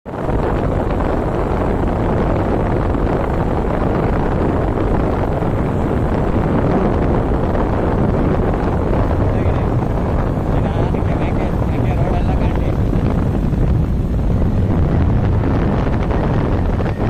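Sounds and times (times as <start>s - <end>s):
wind rush on microphone: 0.0s - 17.0s.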